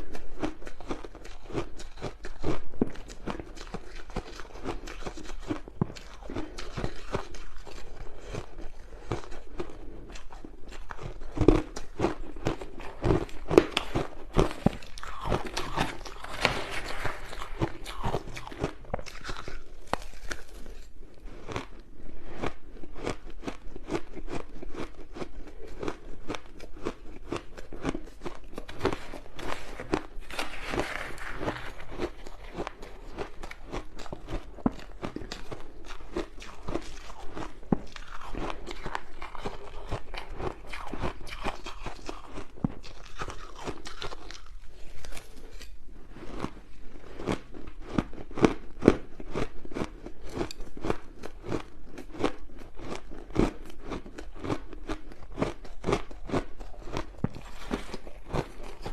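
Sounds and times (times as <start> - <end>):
ice being crunched and chewed: 0.0 - 58.9.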